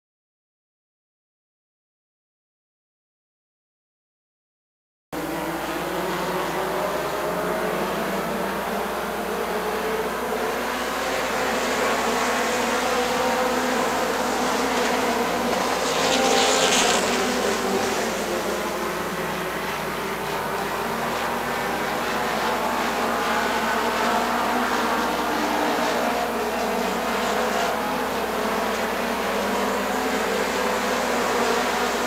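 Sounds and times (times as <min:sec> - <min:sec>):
race car engines buzzing: 0:05.2 - 0:32.0.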